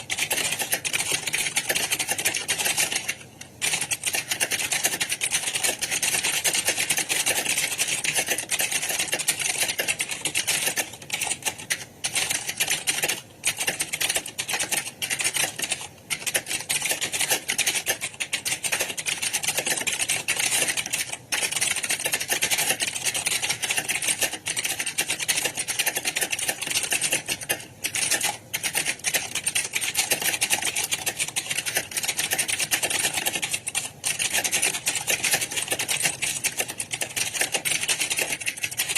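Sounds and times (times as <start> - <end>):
fast typing on computer keyboards: 0.0 - 38.9.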